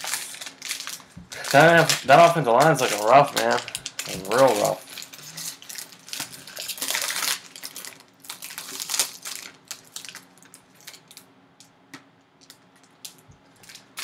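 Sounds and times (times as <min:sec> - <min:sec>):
foil wrapper tearing and crinkling: 0:00.0 - 0:11.3, 0:12.4 - 0:14.0.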